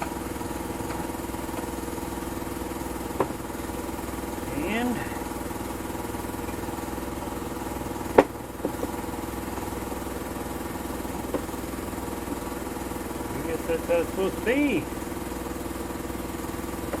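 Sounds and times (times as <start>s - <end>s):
engine knock: 0.0s - 17.0s
small engine idling: 0.0s - 17.0s.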